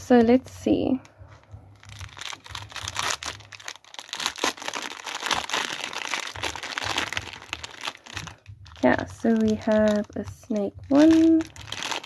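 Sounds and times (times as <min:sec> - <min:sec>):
plastic bag crinkling: 0:01.3 - 0:12.0.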